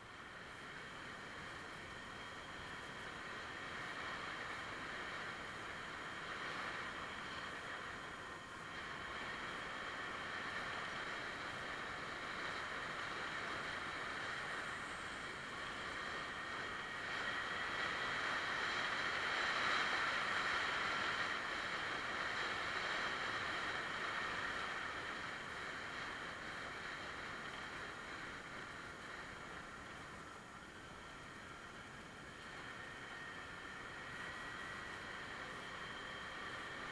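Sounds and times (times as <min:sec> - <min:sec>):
scooter road noise: 0:00.0 - 0:36.9.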